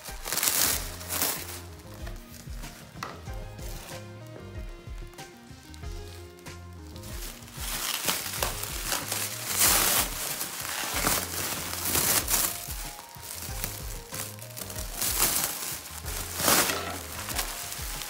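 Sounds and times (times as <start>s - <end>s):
background music with low beat: 0.0s - 18.0s
bubble wrap crinkling: 0.0s - 18.0s.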